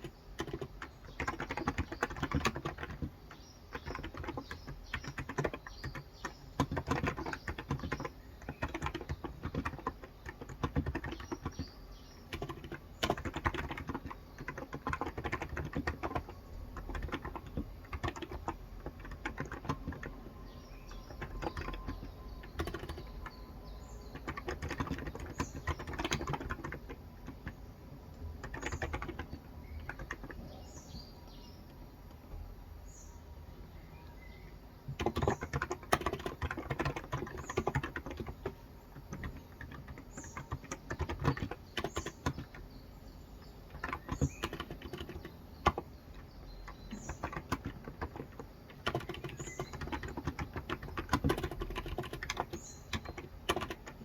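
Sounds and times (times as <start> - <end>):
faint bird chirps: 0.0 - 27.7, 28.4 - 54.0
rapid keyboard typing: 0.0 - 30.8, 34.9 - 54.0.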